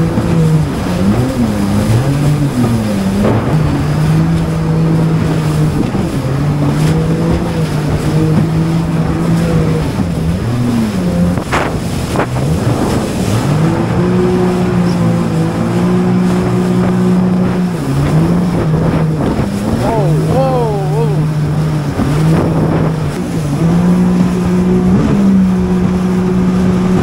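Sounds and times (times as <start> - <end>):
jet ski engine running: 0.0 - 27.0.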